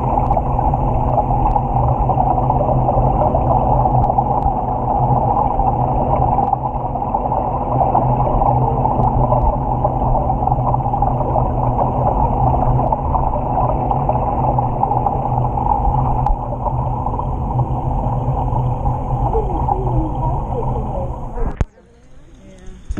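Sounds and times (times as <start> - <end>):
faint hum: 0.0 - 22.9
muffled underwater rumble: 0.0 - 22.9.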